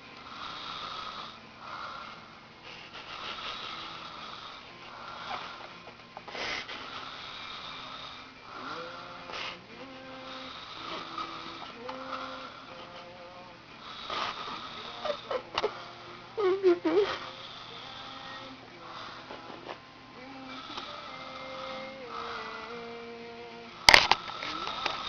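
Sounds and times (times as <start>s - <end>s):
panda snoring: 0.3s - 25.0s.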